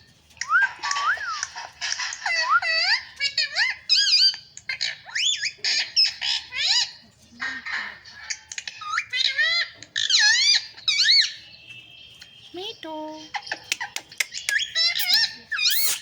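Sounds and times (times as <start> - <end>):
parrot squawking and chattering: 0.4 - 11.5, 13.1 - 16.0.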